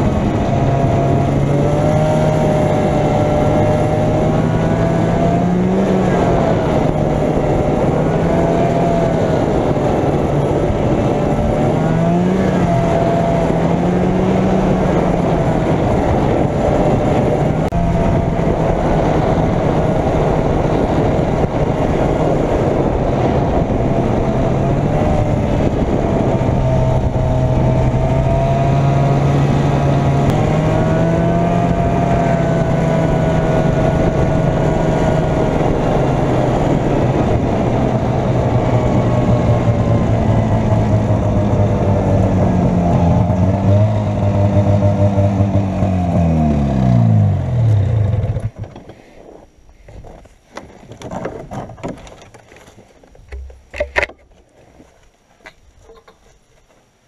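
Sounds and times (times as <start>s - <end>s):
snowmobile engine running: 0.0s - 49.4s.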